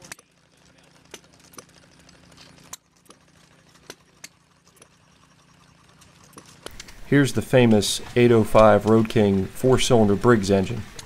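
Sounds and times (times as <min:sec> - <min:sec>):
model engines clicking and popping: 0:00.0 - 0:11.0.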